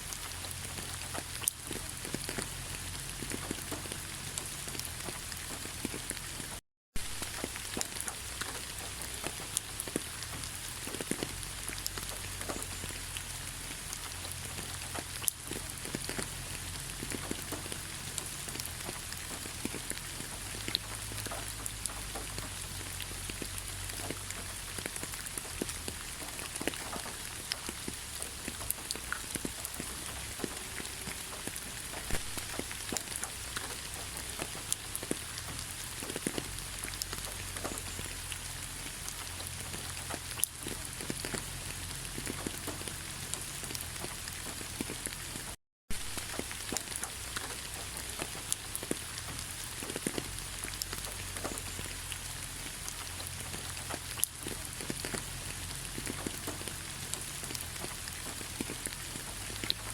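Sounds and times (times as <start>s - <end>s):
raindrops ticking: 0.0s - 59.9s
steady rain hissing: 0.0s - 59.9s.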